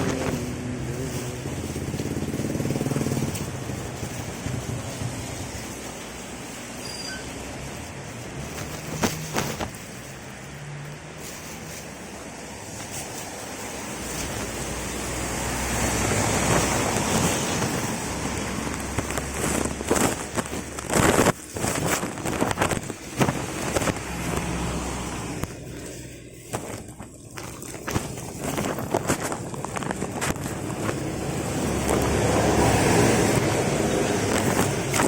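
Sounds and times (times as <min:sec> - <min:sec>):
rain hissing: 0:00.0 - 0:27.2, 0:27.8 - 0:35.0.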